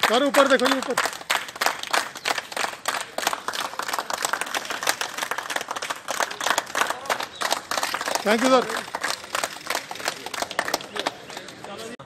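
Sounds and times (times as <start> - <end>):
group applauding: 0.0 - 12.0.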